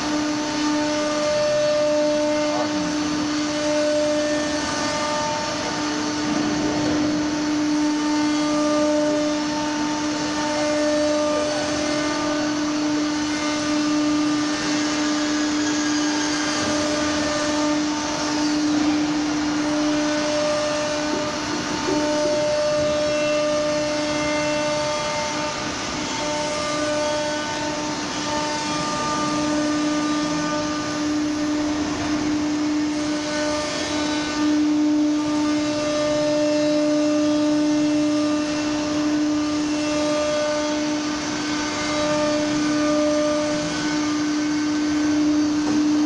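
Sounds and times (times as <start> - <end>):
router spindle high whine: 0.0 - 46.0
rushing mechanical noise: 0.0 - 46.0.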